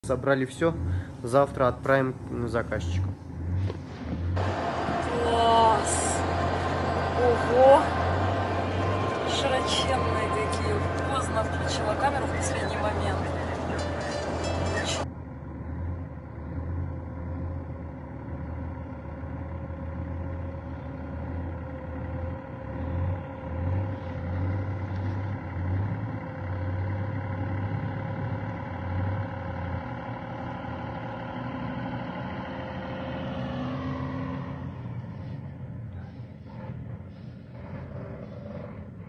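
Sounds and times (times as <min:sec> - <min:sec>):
truck diesel engine running: 0:00.0 - 0:39.0.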